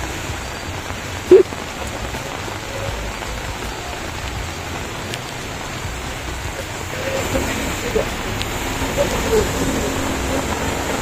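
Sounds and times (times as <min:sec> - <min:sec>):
rain falling on a street: 0:00.0 - 0:11.0.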